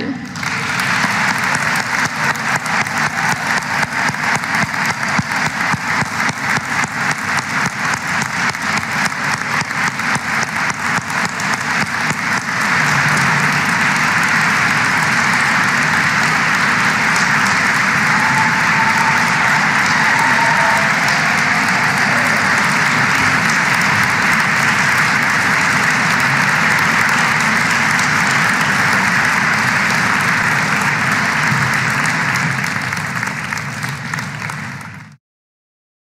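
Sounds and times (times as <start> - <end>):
audience applauding: 0.0 - 35.2
steady rhythmic clapping: 0.0 - 35.2.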